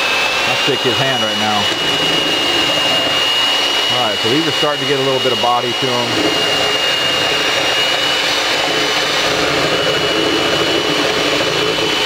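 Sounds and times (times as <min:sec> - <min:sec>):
electric hand mixer whipping eggs: 0:00.0 - 0:12.0.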